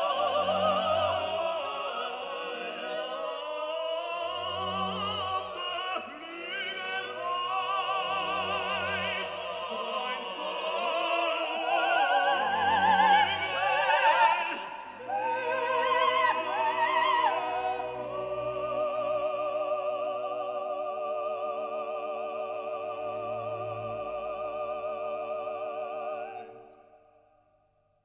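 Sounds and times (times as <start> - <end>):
operatic singing: 0.0 - 27.4.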